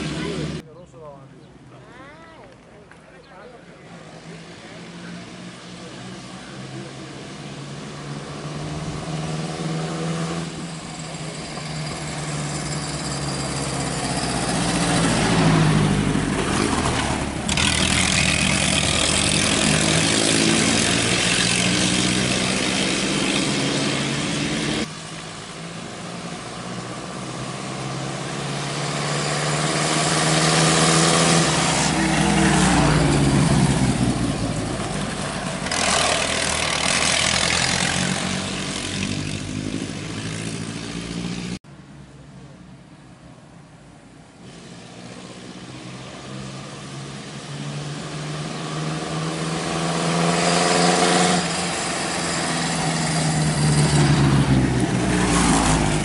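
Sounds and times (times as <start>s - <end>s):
race car engines passing: 0.0s - 1.2s, 3.0s - 41.6s, 44.3s - 56.0s.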